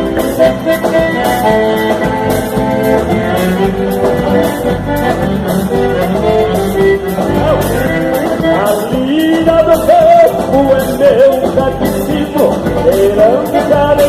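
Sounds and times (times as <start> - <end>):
accordion melody: 0.0 - 14.0
instrumental band dance music: 0.0 - 14.0.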